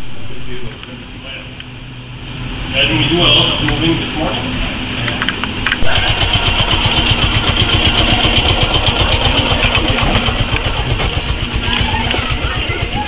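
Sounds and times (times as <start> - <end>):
streetcar machinery pulsing: 0.0 - 13.0.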